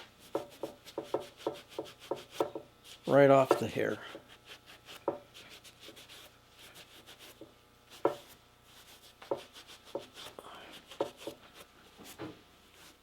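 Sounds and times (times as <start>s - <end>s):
brushing and rubbing on hide: 0.2s - 13.0s.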